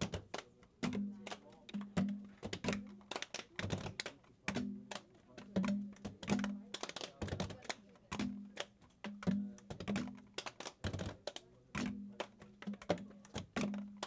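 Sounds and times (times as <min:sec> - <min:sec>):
hands clapping and slapping: 0:00.0 - 0:14.0.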